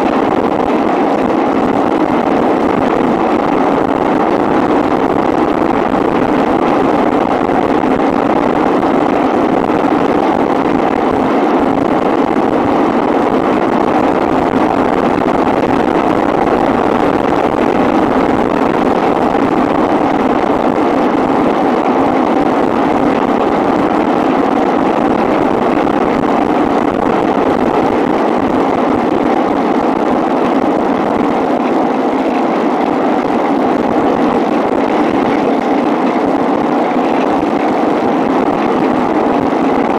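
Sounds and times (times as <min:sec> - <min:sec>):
air rushing over glider: 0:00.0 - 0:39.9.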